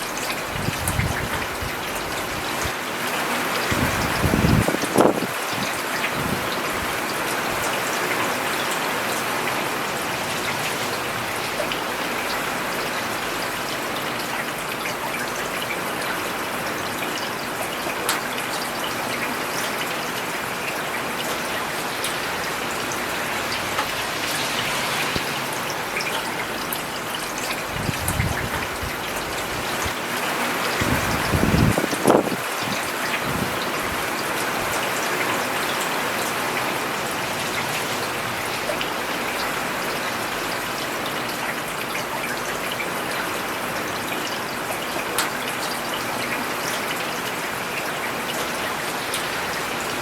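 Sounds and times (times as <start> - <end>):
rain falling on road: 0.0 - 50.0.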